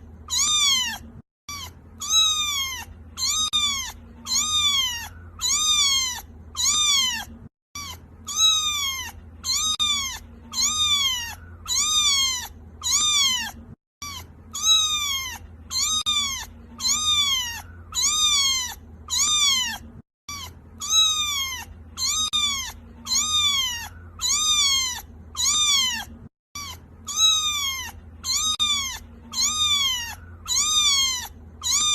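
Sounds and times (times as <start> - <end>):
kitten meowing: 0.2 - 31.9.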